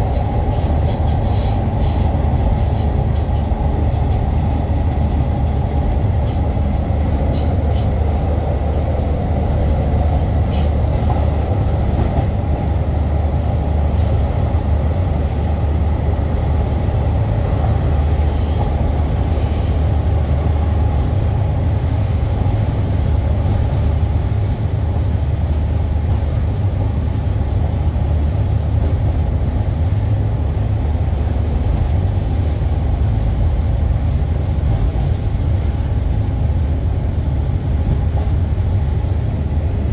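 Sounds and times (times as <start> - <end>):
train running on track: 0.0 - 39.9.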